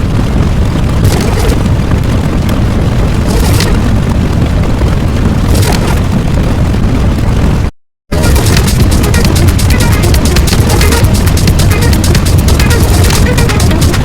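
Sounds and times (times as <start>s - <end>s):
crackling flare: 0.0s - 14.0s
rumbling explosion: 0.0s - 14.0s.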